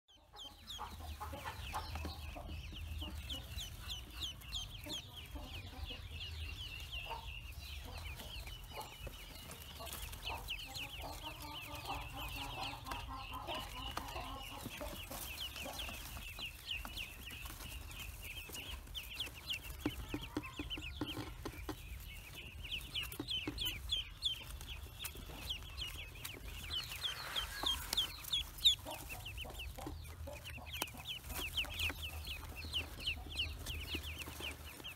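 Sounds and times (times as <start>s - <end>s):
ducklings peeping: 0.1s - 34.9s.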